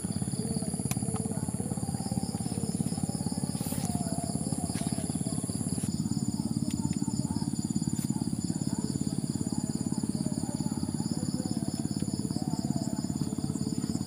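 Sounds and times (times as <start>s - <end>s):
insects trilling: 0.0s - 14.0s
small engine chugging: 0.0s - 14.0s.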